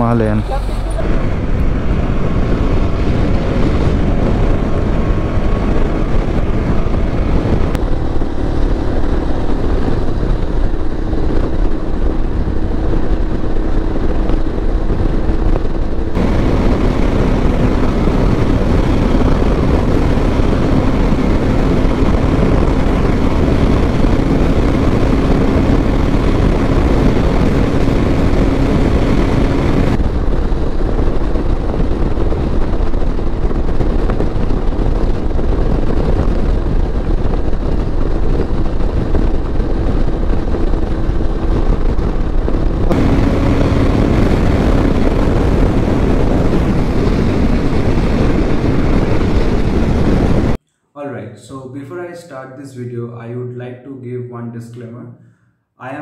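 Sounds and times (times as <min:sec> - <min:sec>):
motorcycle engine running: 0:00.0 - 0:50.6
wind and road noise: 0:00.0 - 0:50.8.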